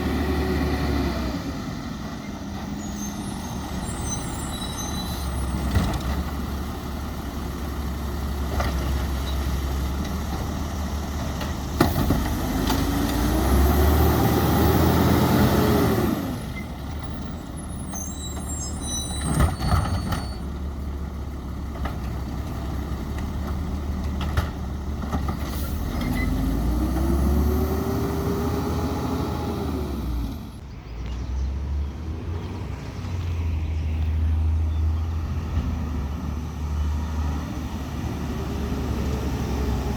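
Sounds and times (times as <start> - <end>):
diesel truck engine idling and revving: 0.0 - 39.9.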